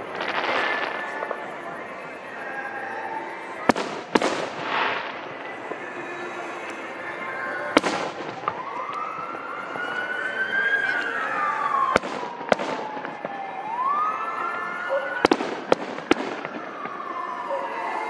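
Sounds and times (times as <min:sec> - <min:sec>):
fireworks bangs: 0:00.0 - 0:14.0, 0:14.9 - 0:18.0
wailing steady tone: 0:00.0 - 0:18.0.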